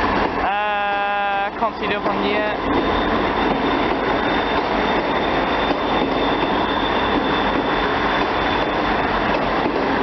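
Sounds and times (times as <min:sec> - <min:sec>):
diesel train running past: 0:00.0 - 0:10.0.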